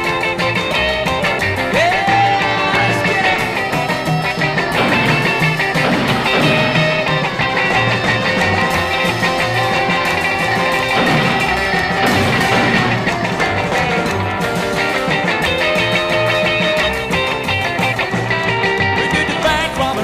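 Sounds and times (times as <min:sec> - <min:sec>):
bass line: 0:00.0 - 0:20.0
drums: 0:00.0 - 0:20.0
electric guitar: 0:00.0 - 0:20.0.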